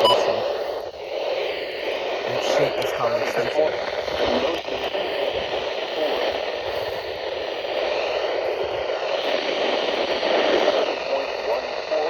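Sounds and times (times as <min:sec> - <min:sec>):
faint radio broadcast: 0:00.0 - 0:12.0
radio static hiss: 0:00.0 - 0:12.0.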